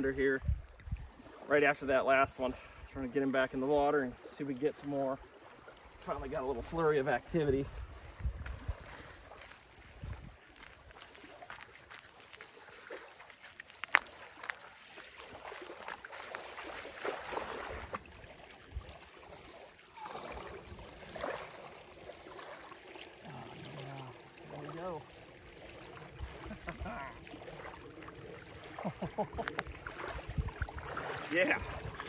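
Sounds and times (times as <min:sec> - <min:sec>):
water sloshing and lapping: 0:00.0 - 0:32.0.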